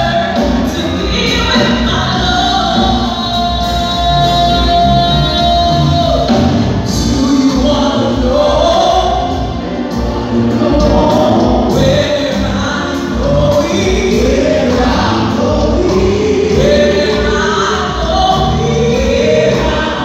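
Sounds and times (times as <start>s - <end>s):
choir singing gospel song: 0.0s - 20.0s
instrumental backing: 0.0s - 20.0s.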